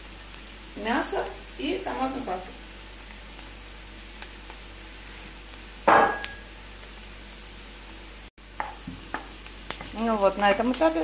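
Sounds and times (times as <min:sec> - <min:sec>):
onion sizzling in frying pan: 0:00.0 - 0:11.0.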